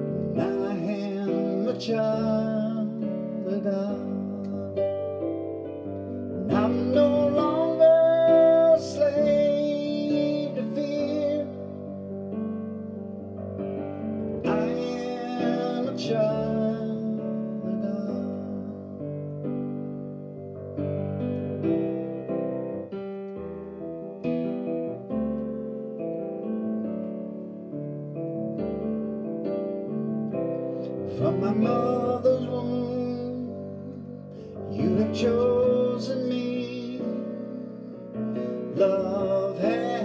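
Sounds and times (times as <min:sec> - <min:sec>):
electric piano chords and melody: 0:00.0 - 0:40.0.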